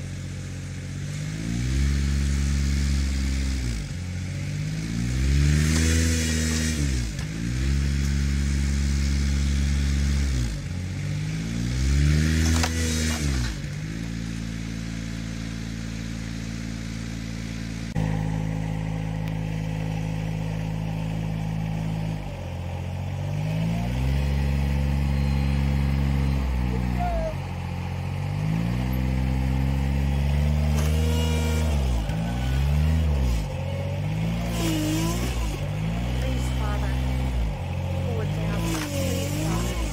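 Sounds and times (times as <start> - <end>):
vehicle engine revving under load: 0.0 - 39.9.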